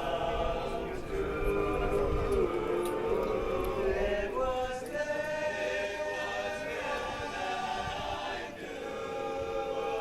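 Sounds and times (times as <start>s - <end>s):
a cappella chorus singing: 0.0s - 10.0s.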